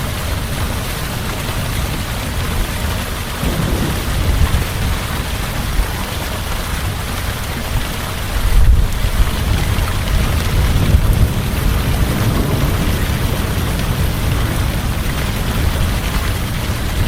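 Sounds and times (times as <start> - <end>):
heavy rain falling: 0.0 - 17.0
low thunder rumbles: 0.1 - 17.0.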